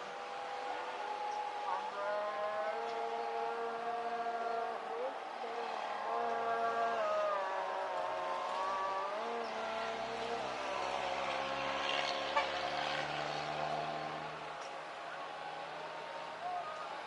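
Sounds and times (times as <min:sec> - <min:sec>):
vehicle engines passing: 0:00.0 - 0:17.0.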